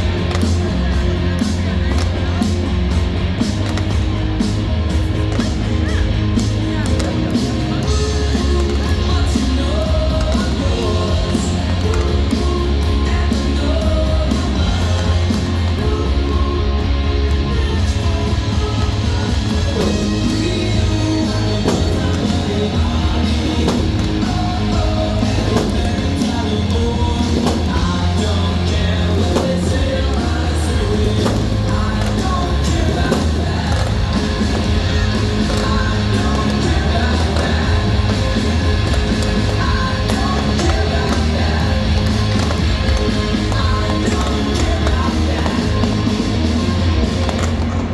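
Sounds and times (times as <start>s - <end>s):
rock song over loudspeakers: 0.0s - 47.9s.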